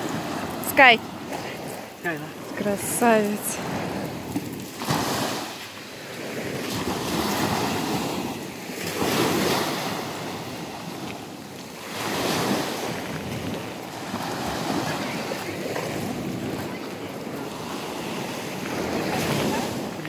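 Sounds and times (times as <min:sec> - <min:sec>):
waves breaking on sandy beach: 0:00.0 - 0:20.0
wind rumbling on microphone: 0:00.0 - 0:20.0.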